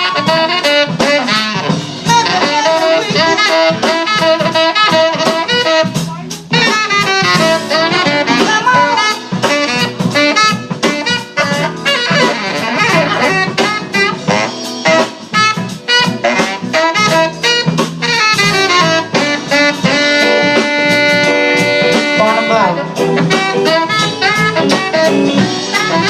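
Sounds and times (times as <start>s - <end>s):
drum kit steady beat: 0.0s - 26.0s
jazz band playing: 0.0s - 26.0s
saxophone solo: 0.0s - 26.0s.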